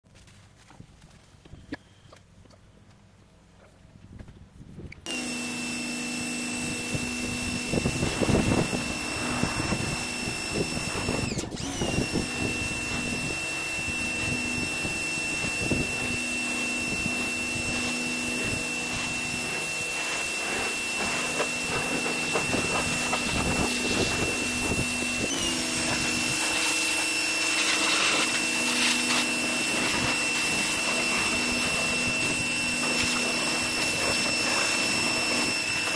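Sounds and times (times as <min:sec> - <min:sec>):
pressure washer motor whine: 0:05.0 - 0:35.9
water jet spraying: 0:05.1 - 0:35.9.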